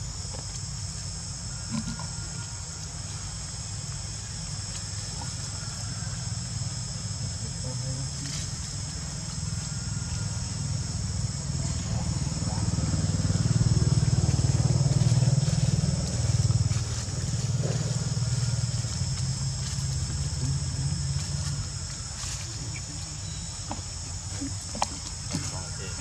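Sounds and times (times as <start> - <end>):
insects buzzing: 0.0 - 26.0
motor engine pulsing drone: 0.0 - 26.0.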